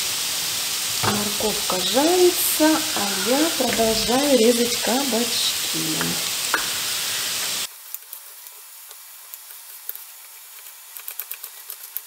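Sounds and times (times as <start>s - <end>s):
carrots sizzling in oil: 0.0s - 11.6s.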